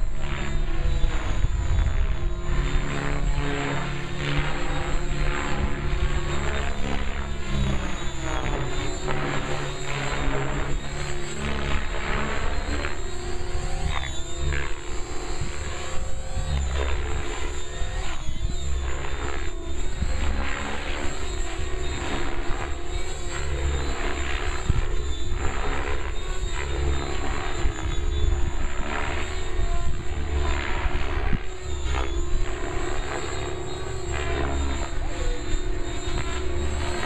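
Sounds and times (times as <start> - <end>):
helicopter rotor blades whooshing: 0.0 - 37.0.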